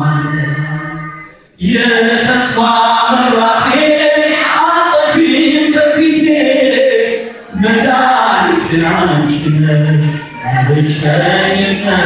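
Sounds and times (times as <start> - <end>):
choir singing a hymn: 0.0 - 12.0.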